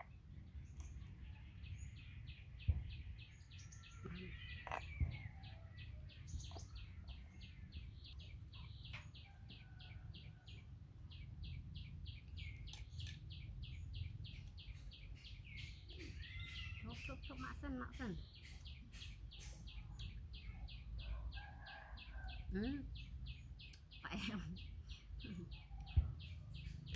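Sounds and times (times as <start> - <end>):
bird chirping: 0.0 - 26.9.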